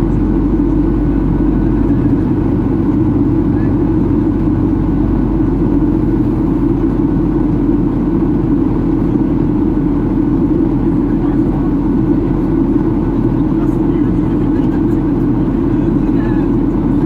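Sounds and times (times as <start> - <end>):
jet engines in aircraft cabin: 0.0 - 17.0.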